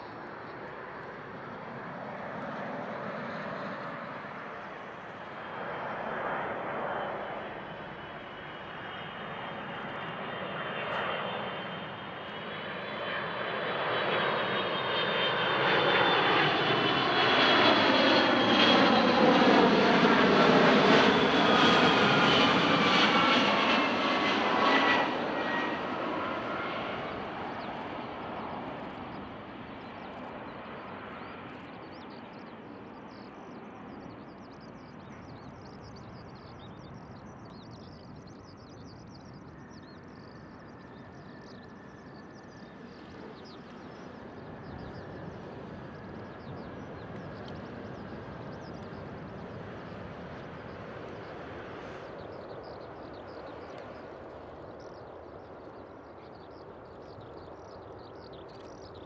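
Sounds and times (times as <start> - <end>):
jet engines rumble and whine: 0.0 - 59.0.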